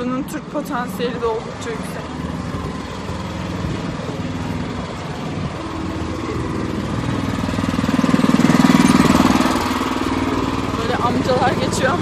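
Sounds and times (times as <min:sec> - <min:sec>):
small vehicle engine passing: 0:00.0 - 0:12.0.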